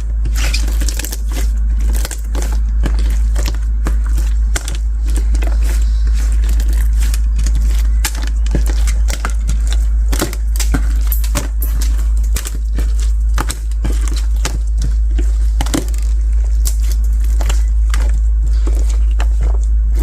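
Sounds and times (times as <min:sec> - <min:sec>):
low hum: 0:00.0 - 0:20.0
slime beads crackling: 0:00.1 - 0:20.0.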